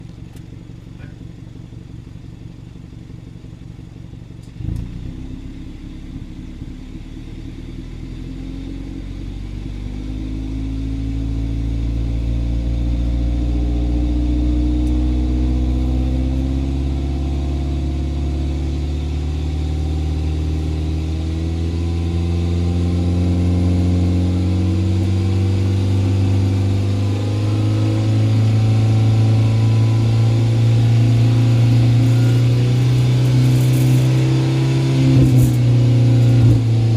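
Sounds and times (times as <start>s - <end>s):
car engine and exhaust running: 0.0s - 36.9s.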